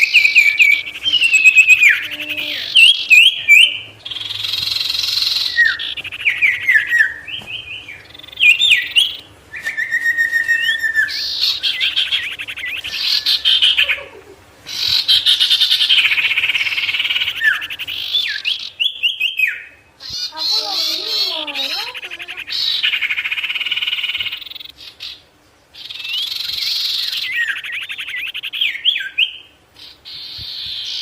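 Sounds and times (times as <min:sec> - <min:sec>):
songbird singing trills and whistles: 0:00.0 - 0:31.0.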